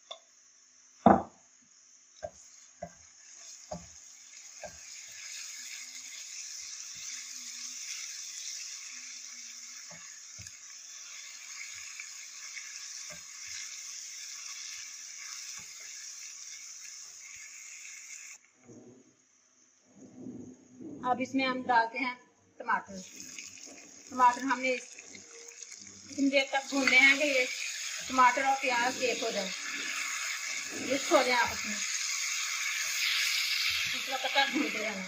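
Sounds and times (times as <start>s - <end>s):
onions sizzling in frying pan: 0.0s - 18.4s, 23.0s - 35.0s.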